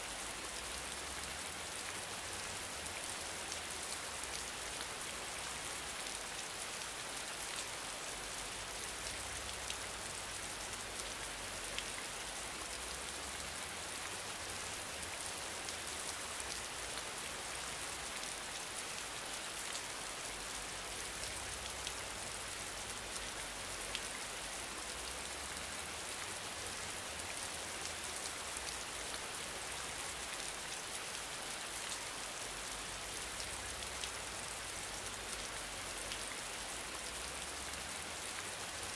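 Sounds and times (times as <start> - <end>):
steady rain-like hiss: 0.0 - 38.9.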